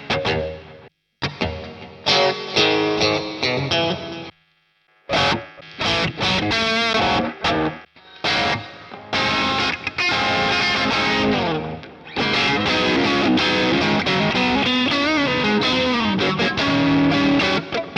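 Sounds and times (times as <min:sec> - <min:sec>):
distorted electric guitar: 0:00.0 - 0:17.9.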